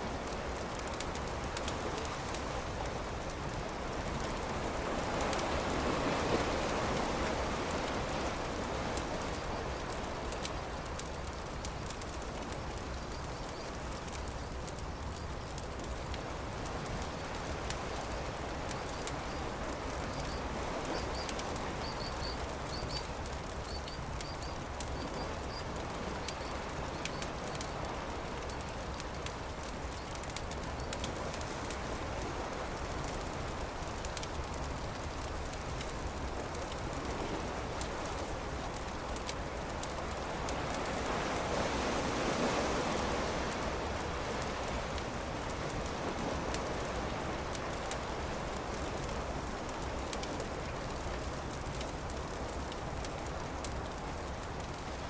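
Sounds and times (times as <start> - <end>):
campfire crackling and popping: 0.1 - 55.0.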